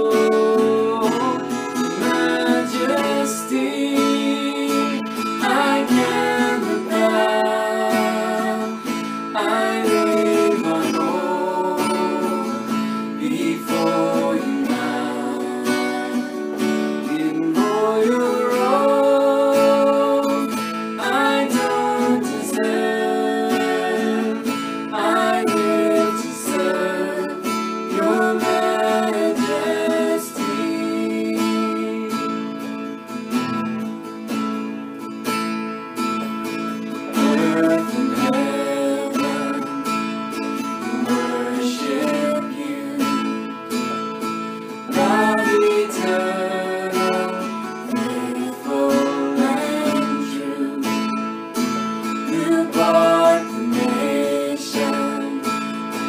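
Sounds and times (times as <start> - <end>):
man and woman singing together: 0.0 - 32.4, 37.1 - 40.1, 40.8 - 43.6, 44.9 - 51.2, 52.3 - 56.0
acoustic guitar strumming: 0.0 - 56.0.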